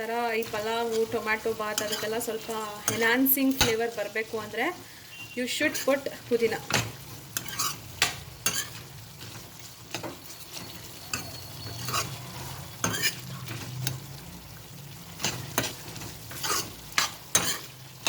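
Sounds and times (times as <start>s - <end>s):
vegetables sizzling in oil: 0.0s - 18.0s
spatula scraping pan: 0.1s - 4.0s, 4.8s - 14.3s, 15.0s - 18.0s.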